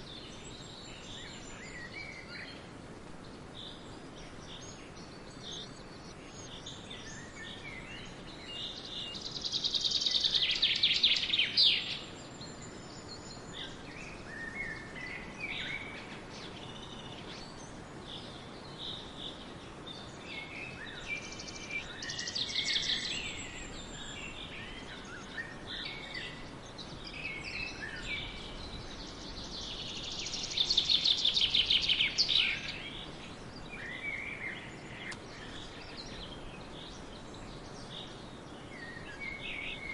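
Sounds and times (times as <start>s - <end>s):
background hiss: 0.0s - 39.9s
birds chirping: 0.0s - 39.9s.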